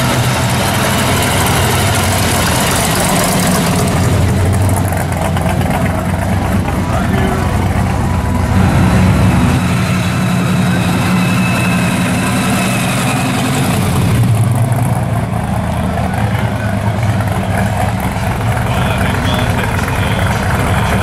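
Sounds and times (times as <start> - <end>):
car engine idling with deep rumble: 0.0 - 21.0.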